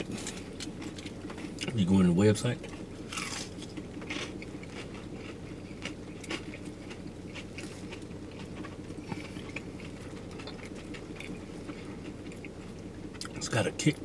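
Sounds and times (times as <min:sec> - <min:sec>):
chewing crunches: 0:00.0 - 0:01.9, 0:02.6 - 0:13.5
steady low hum: 0:00.0 - 0:14.0.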